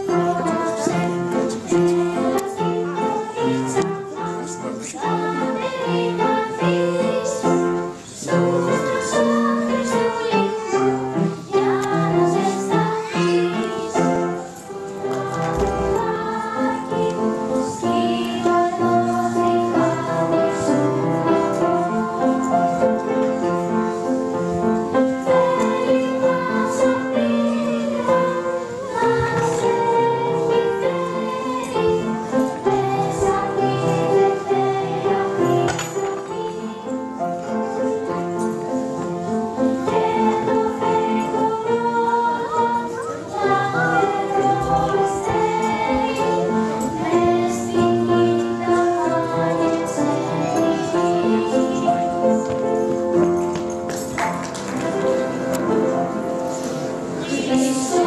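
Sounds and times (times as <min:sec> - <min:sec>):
girls singing in unison: 0:00.0 - 0:58.0
upright piano: 0:00.0 - 0:58.0.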